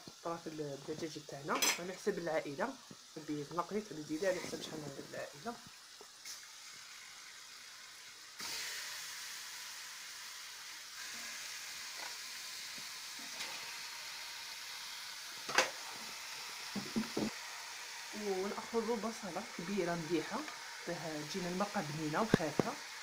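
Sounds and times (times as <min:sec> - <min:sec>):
chicken sizzling in a pot: 0:00.0 - 0:23.0.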